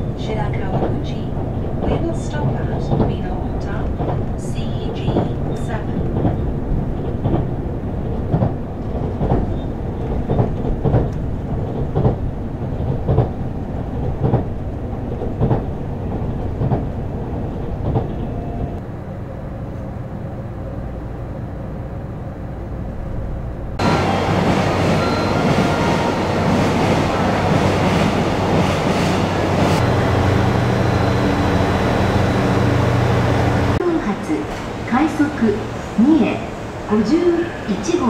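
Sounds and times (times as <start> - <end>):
train rumble from on board: 0.0 - 38.0.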